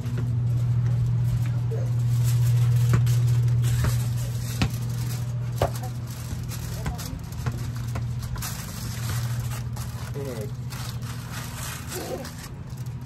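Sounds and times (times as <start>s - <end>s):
aluminium foil rustling: 0.0s - 13.0s
steady low hum: 0.0s - 13.0s.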